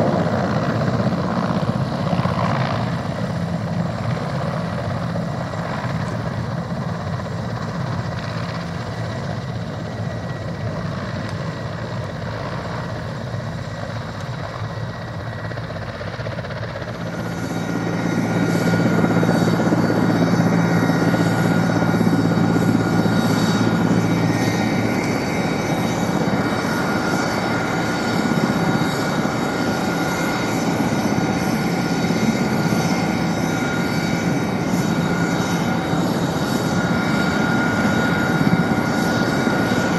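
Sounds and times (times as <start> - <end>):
helicopter rotor beat: 0.0 - 39.9
turbine whine: 0.0 - 39.9.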